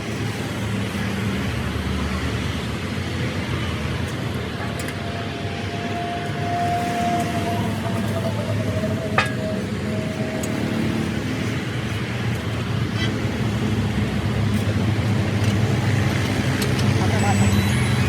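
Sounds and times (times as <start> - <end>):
thin steady whine: 2.7 - 18.0.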